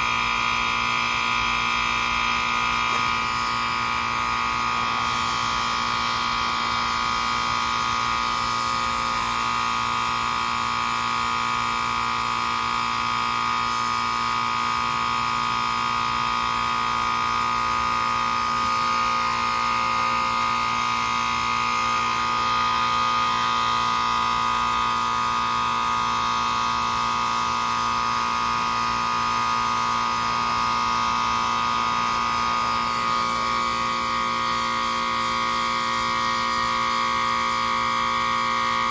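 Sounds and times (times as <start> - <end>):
heat pump compressor drone: 0.0 - 38.9.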